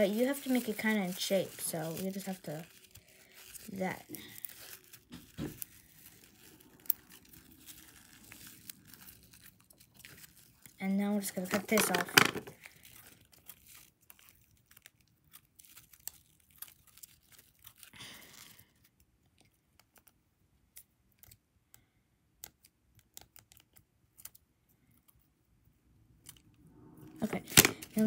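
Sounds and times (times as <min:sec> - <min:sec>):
soft plastic rustle: 0:00.0 - 0:21.8, 0:23.0 - 0:28.0.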